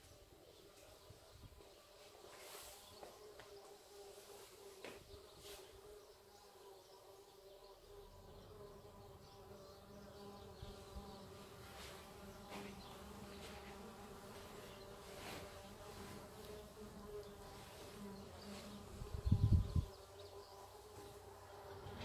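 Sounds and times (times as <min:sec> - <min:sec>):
faint buzzing hum: 0:00.0 - 0:22.0.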